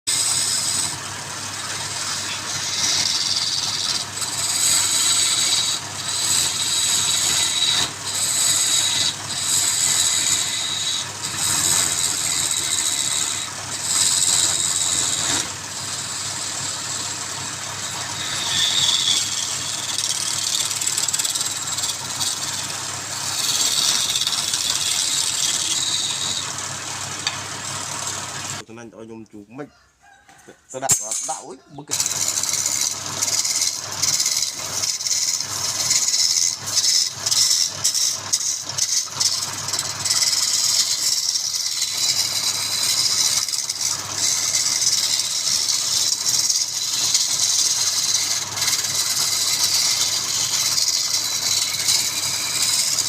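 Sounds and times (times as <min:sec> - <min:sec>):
wood lathe running: 0:00.1 - 0:28.6, 0:30.9 - 0:53.0
turning tool scraping wood: 0:00.1 - 0:29.3, 0:30.1 - 0:53.0.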